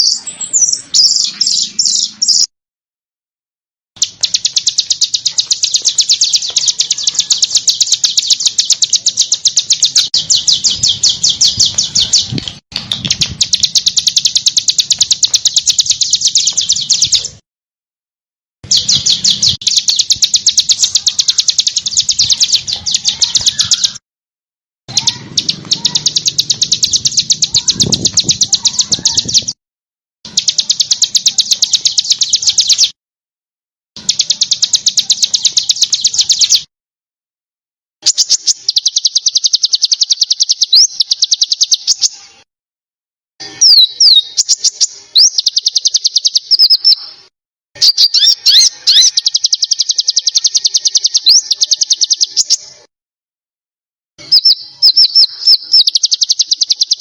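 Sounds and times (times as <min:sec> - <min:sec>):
songbird trill: 0:00.0 - 0:02.5, 0:04.0 - 0:17.4, 0:18.6 - 0:24.0, 0:24.9 - 0:29.6, 0:30.3 - 0:33.0, 0:34.0 - 0:36.7, 0:38.0 - 0:42.4, 0:43.4 - 0:52.9, 0:54.2 - 0:57.0.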